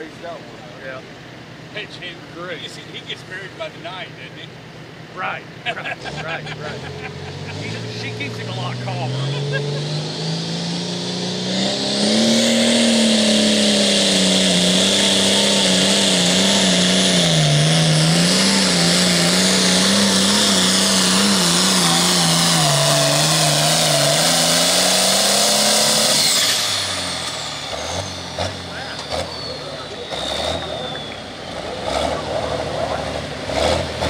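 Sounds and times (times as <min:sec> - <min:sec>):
diesel tractor engine under load: 0:00.0 - 0:34.0.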